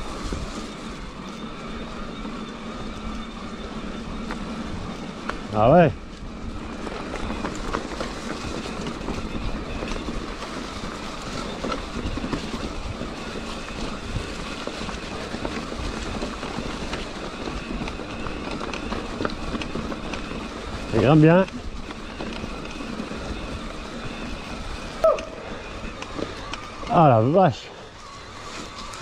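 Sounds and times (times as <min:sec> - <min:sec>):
bike rattling and knocking: 0:00.0 - 0:29.0
bike tyres rumbling on trail: 0:00.0 - 0:29.0.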